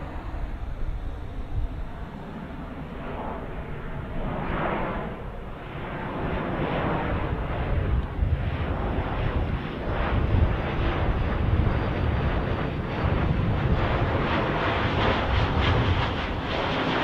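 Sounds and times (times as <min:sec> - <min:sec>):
wind buffeting microphone: 0:00.0 - 0:16.8
jet plane passing overhead: 0:00.0 - 0:17.0.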